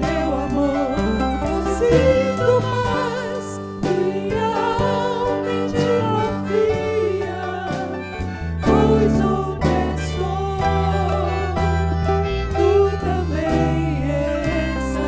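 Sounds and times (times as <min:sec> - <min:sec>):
worship song with vocals: 0:00.0 - 0:15.0.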